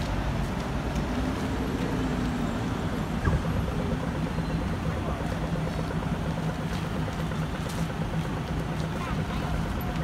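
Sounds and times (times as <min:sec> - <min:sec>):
bus engine running: 0:00.0 - 0:10.0
road traffic: 0:00.0 - 0:10.0.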